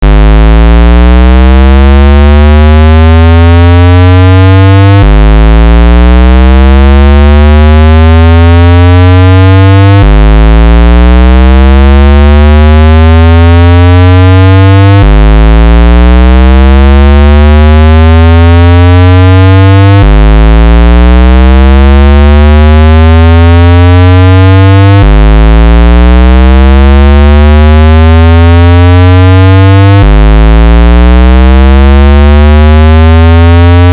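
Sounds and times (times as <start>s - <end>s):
low tone gliding up in pitch: 0.0s - 33.9s.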